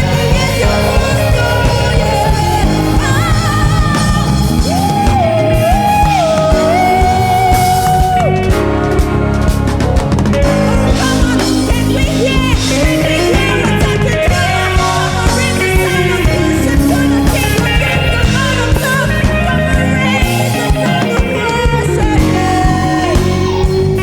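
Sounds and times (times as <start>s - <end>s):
choir singing: 0.0s - 23.9s
band playing gospel song: 0.0s - 24.0s.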